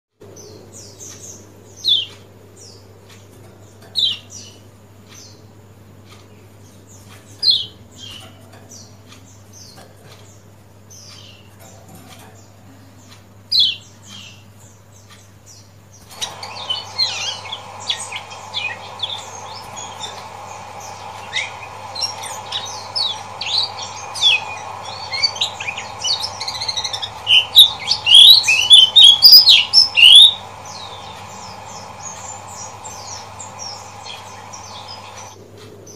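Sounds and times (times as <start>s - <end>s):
steady low hum: 0.2s - 35.9s
bird chirping: 0.3s - 35.9s.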